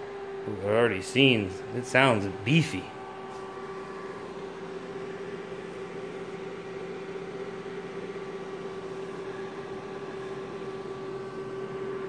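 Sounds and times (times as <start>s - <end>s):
cooling fans humming: 0.0s - 12.0s.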